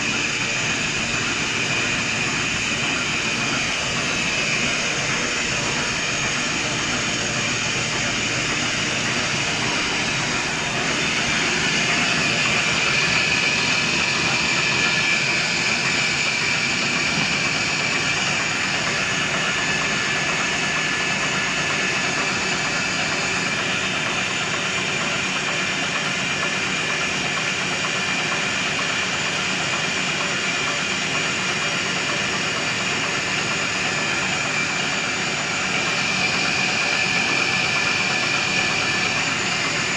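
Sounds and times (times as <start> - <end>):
folding machine running: 0.0 - 39.9.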